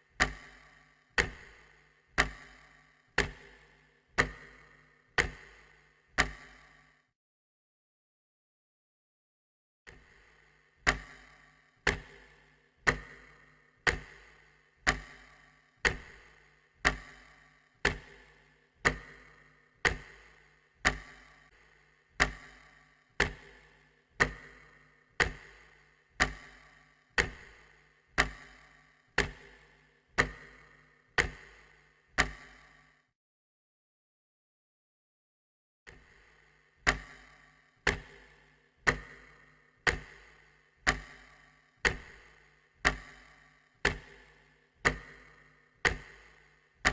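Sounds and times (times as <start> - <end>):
clock ticking: 0.1 - 6.9, 9.9 - 32.9, 35.9 - 46.9.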